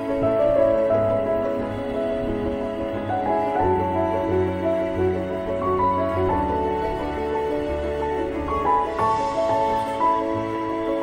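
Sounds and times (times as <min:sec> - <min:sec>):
soft slow instrumental music: 0:00.0 - 0:11.0.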